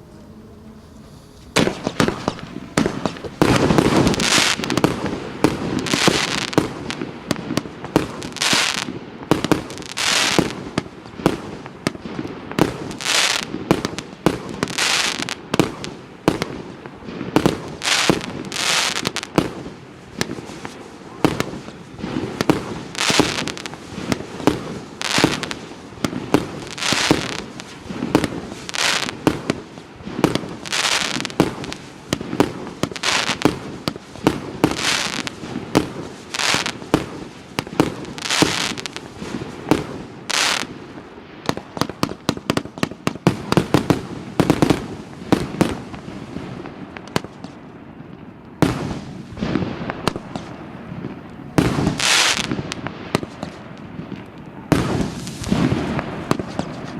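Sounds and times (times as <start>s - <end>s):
fireworks launching and bursting: 0.0s - 56.9s
rapid firework cracks: 1.6s - 47.6s, 48.6s - 50.6s, 51.6s - 56.9s.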